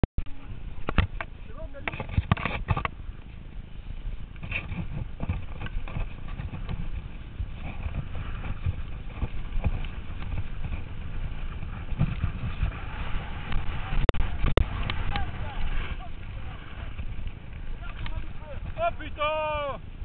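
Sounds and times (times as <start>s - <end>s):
low wind rumble: 0.2s - 20.0s
bike rattling over bumps: 0.3s - 20.0s.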